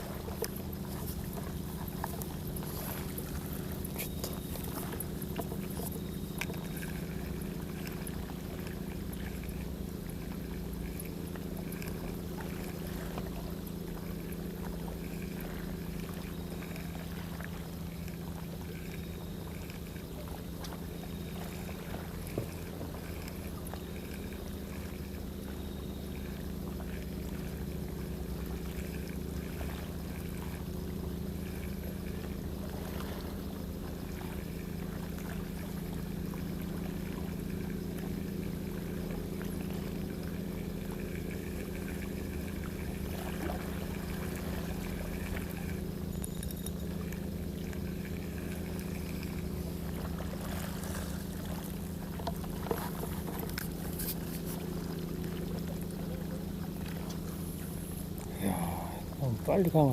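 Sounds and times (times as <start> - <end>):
faint water noise: 0.0 - 59.9
low engine hum: 0.0 - 59.9.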